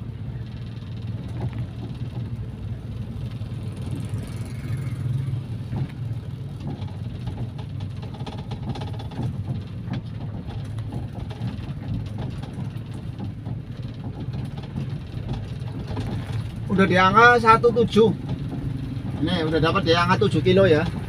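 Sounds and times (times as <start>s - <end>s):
low car engine drone: 0.0s - 21.0s
road noise: 0.0s - 21.0s.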